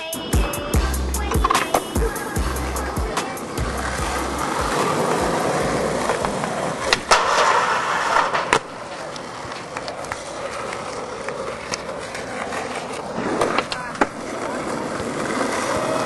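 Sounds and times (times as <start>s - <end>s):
skateboard sharp clack: 0.0s - 16.0s
skateboard wheels rolling on asphalt: 0.0s - 16.0s
skateboard grinding on metal edge: 0.5s - 16.0s.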